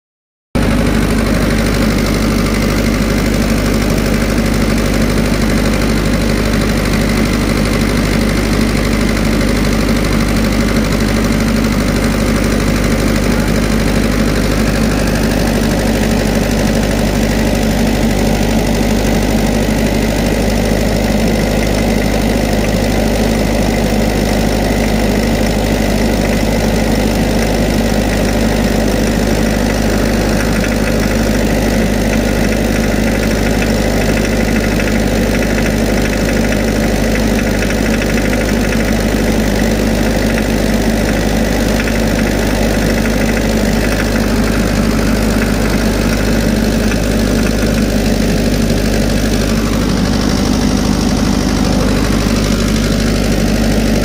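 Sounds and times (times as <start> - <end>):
diesel engine idling: 0.6 - 54.0.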